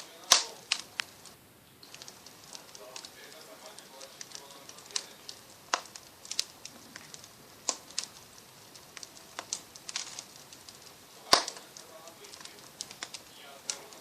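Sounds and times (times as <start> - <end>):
faint hiss: 0.0 - 14.0
fire crackling and popping: 0.0 - 14.0.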